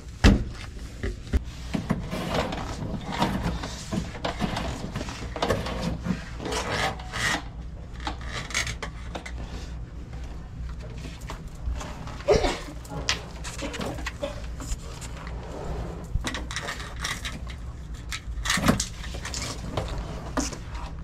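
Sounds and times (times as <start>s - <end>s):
rubbing and scraping of clothes: 0.0s - 21.0s.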